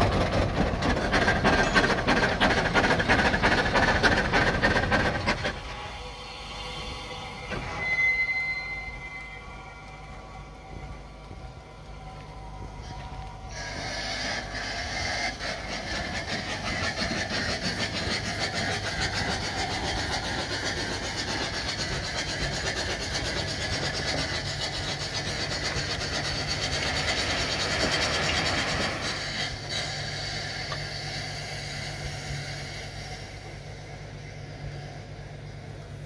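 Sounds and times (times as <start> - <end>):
steam pump clattering: 0.0 - 8.8, 12.8 - 35.0
steam exhaust hissing: 0.0 - 36.0.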